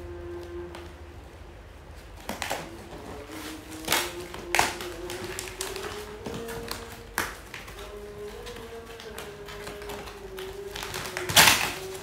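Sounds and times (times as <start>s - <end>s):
paper packaging tearing and rustling: 2.2s - 12.0s.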